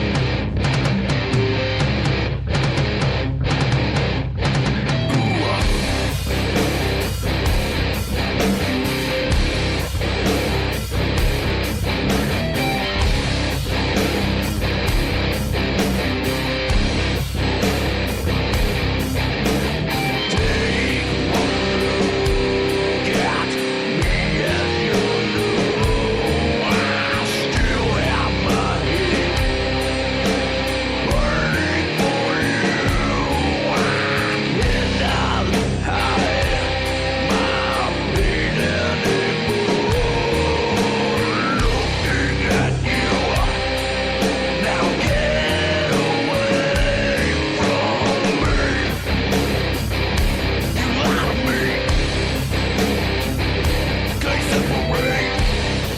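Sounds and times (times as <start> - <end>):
heavy metal song: 0.0 - 55.9
rock music with electric guitars: 0.0 - 55.9
steady drum beat: 0.0 - 55.9.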